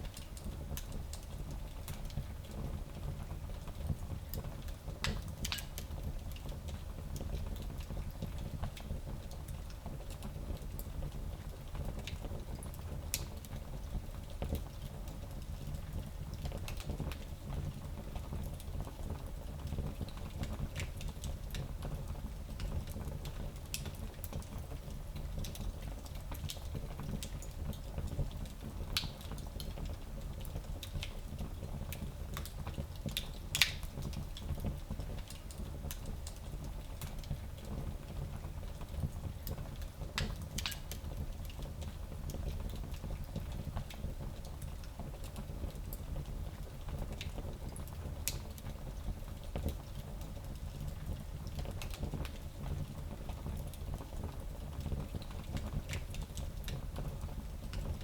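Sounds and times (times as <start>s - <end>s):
fire crackling and popping: 3.8s - 58.0s.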